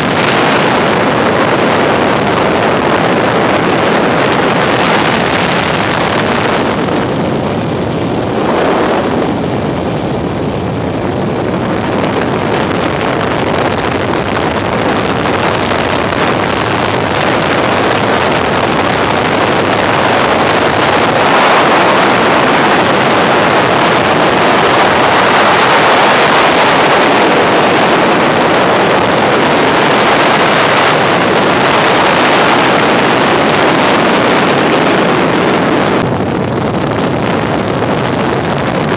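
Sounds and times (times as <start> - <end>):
helicopter engine and rotor: 0.0 - 38.3
wind buffeting microphone: 0.0 - 38.9.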